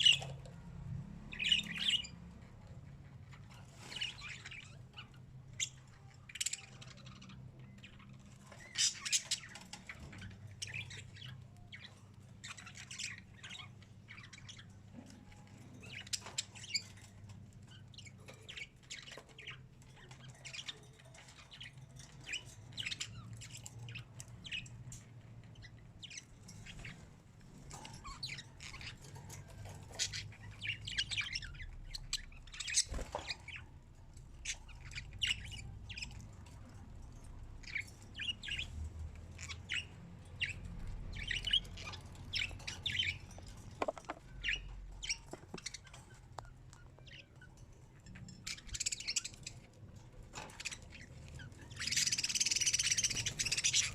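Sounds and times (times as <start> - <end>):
birds chirping and squawking: 0.0 - 53.9.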